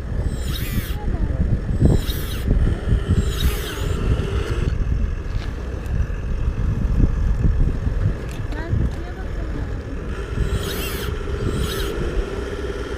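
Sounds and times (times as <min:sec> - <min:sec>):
low rumble: 0:00.0 - 0:12.9
small electric motors whining: 0:00.0 - 0:12.9.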